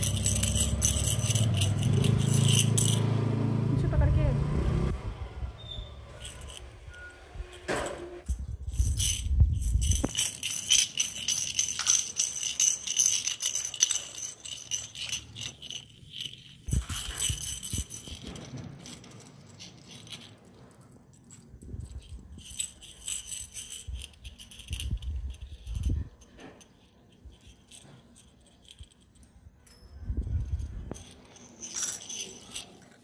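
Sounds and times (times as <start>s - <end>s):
bells jingling in plastic balls: 0.0s - 4.3s, 5.6s - 7.5s, 8.2s - 33.0s.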